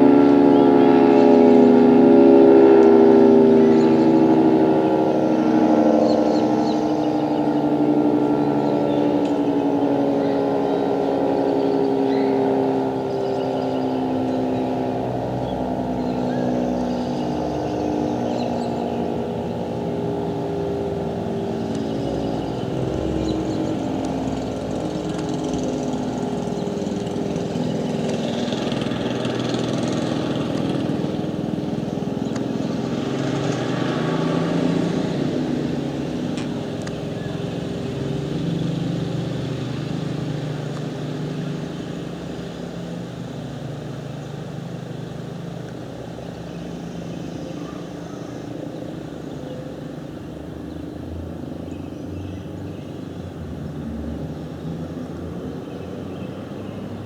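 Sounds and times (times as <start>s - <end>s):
warning siren chord: 0.0s - 51.8s.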